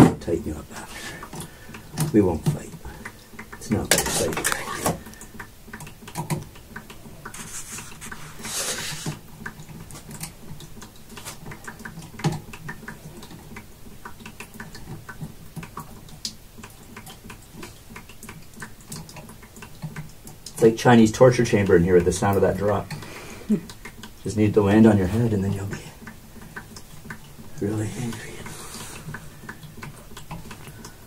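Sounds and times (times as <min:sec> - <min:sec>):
water dripping: 0:00.0 - 0:31.0.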